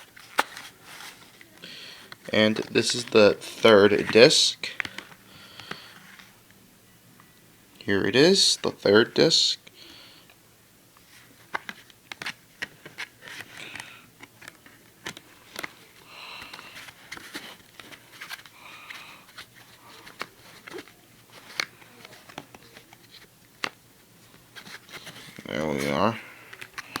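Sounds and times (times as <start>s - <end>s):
plastic rustling: 0.0s - 6.2s, 11.0s - 27.0s.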